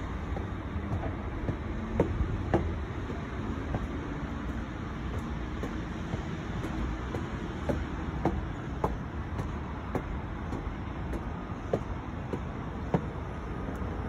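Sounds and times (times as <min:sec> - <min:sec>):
city traffic hum: 0:00.0 - 0:14.0
footsteps on stone and tile: 0:00.0 - 0:14.0.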